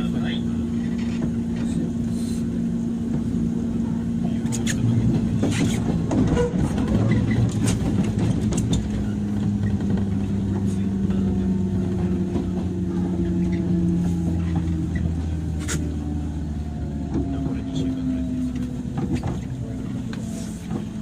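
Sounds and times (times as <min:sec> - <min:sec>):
train motor and gear hum: 0:00.0 - 0:21.0
train rolling noise: 0:00.0 - 0:21.0
rail joint clicks: 0:00.1 - 0:21.0.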